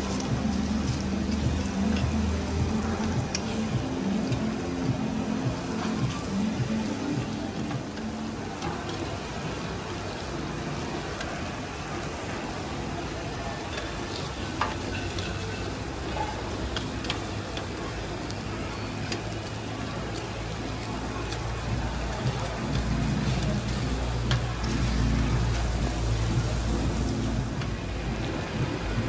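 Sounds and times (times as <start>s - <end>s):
chicken sizzling on a griddle: 0.0s - 29.0s.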